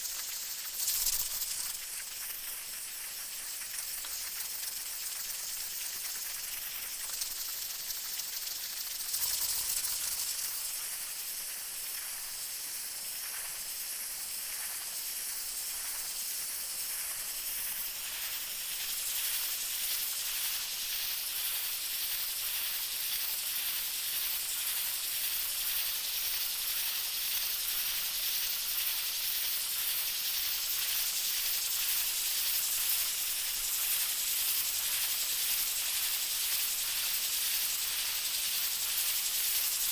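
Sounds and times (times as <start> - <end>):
pressure cooker hissing steam: 0.0 - 39.9.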